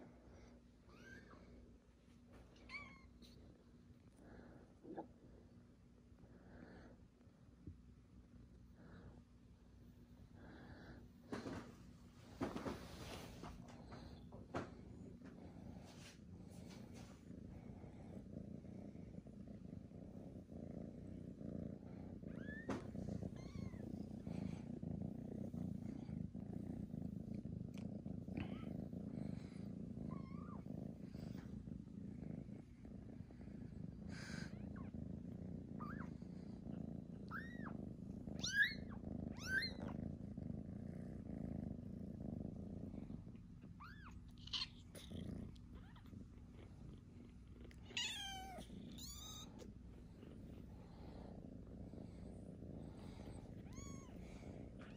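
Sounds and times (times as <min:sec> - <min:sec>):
kitten purring: 0:00.0 - 0:54.9.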